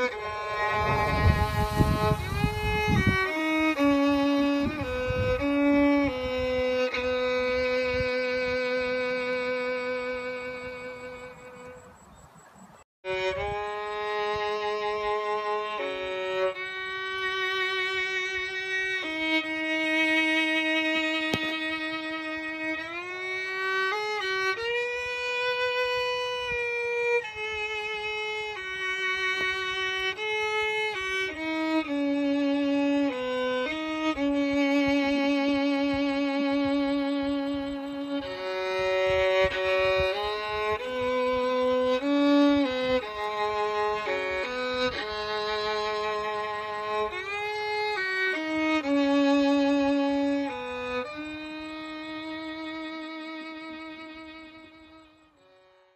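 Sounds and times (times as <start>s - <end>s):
bowed string solo melody: 0.0s - 11.8s, 13.0s - 55.9s.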